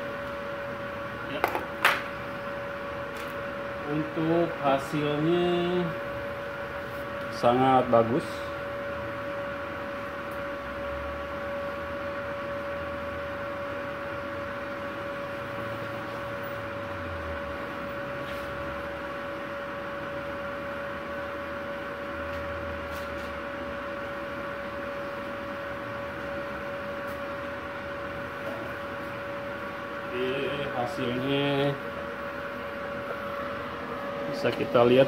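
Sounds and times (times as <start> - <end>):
fan noise: 0.0 - 35.0
mid-pitched whine: 0.0 - 35.0
welding machine humming: 0.0 - 35.0.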